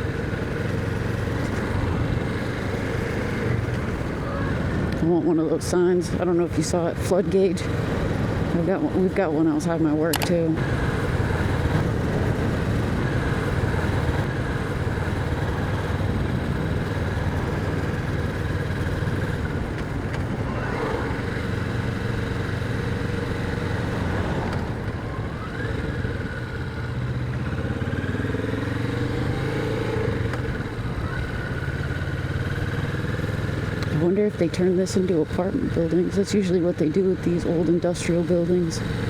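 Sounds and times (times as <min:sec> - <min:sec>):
motorcycle engine accelerating: 0:00.0 - 0:39.0
road and wind noise: 0:00.0 - 0:39.0.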